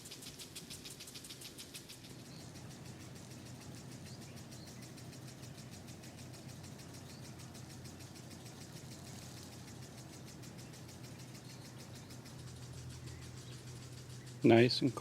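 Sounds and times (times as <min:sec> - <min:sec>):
rapid high-pitched pulsing: 0:00.0 - 0:15.0
steady low hum: 0:00.0 - 0:15.0.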